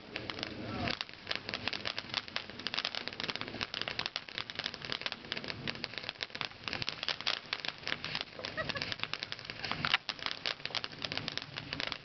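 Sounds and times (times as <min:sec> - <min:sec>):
firework crackling pops: 0:00.0 - 0:12.0.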